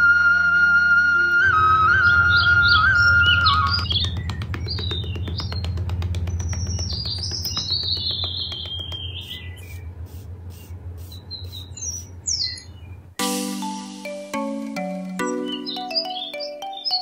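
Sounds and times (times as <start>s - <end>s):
birds chirping: 1.5s - 13.2s, 14.0s - 17.0s.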